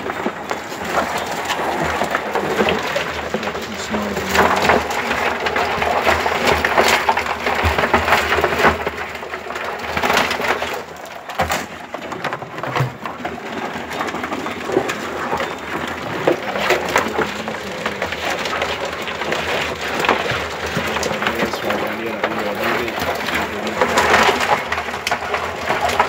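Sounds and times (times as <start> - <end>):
crabs scrabbling in plastic bucket: 0.0 - 26.0.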